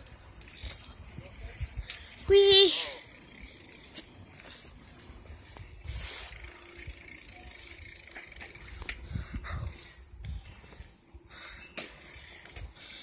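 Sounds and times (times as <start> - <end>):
bicycle freewheel ticking: 0.0 - 13.0.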